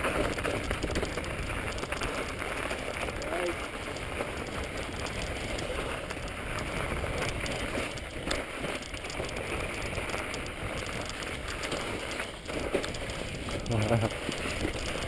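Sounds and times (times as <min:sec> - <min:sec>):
bike rattling over rocks: 0:00.0 - 0:15.0
small clicks: 0:00.0 - 0:15.0
tyres crunching through snow: 0:00.0 - 0:15.0.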